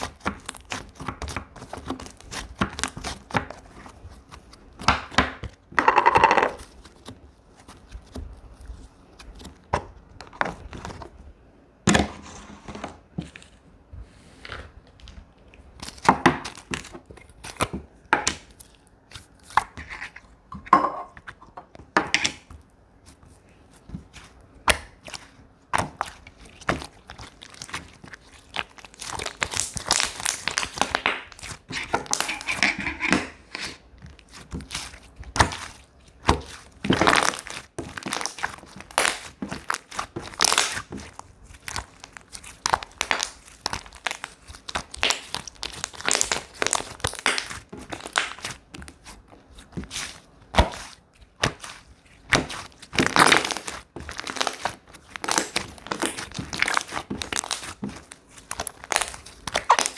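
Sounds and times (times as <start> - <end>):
slime squished and stretched: 0.0 - 11.1, 14.4 - 20.5, 22.3 - 59.9.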